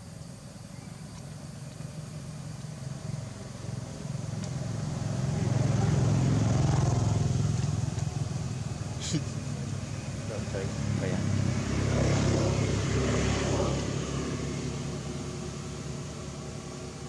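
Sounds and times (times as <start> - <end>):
vehicle engine passing by: 2.2 - 17.0.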